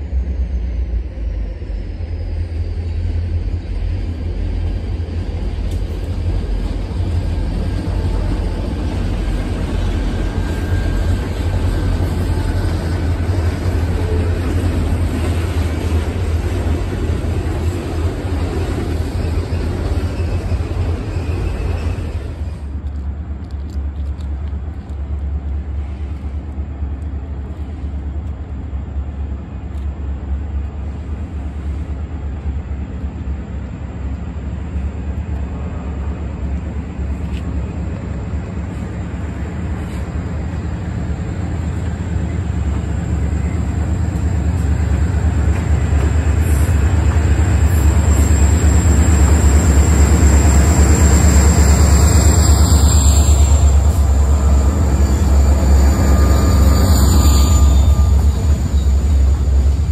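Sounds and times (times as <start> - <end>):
diesel locomotive drone: 0.0 - 59.9
train wheels rumbling on rails: 0.0 - 59.9.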